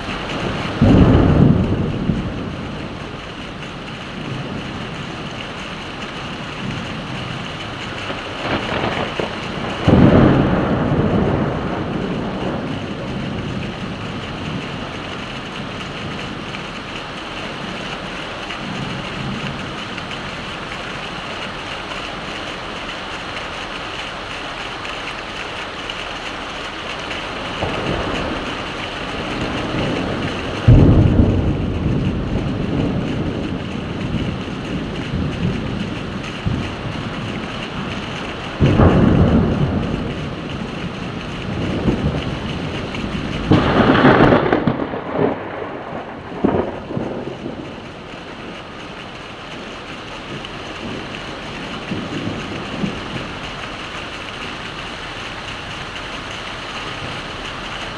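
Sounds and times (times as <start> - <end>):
heavy rain falling: 0.0 - 57.9
thunder claps rumbling: 0.0 - 57.9.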